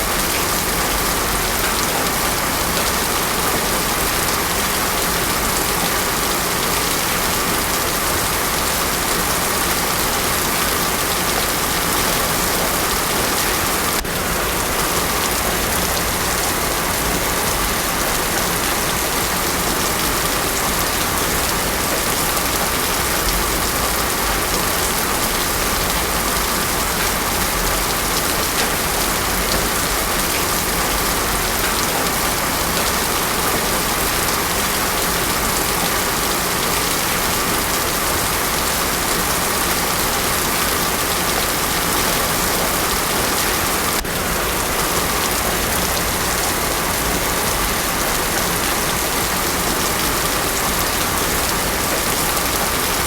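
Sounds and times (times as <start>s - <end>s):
heavy rain on a paved road: 0.0s - 53.0s.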